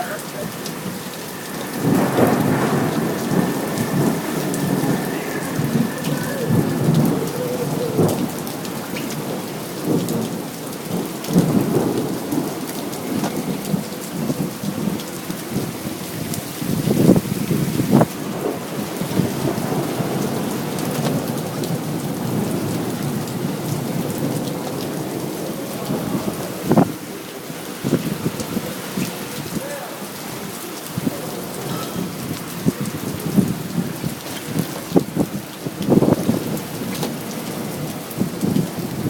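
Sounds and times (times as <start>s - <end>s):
thunder rumbling: 0.0s - 29.6s, 30.9s - 39.0s
steady rain: 0.0s - 39.0s.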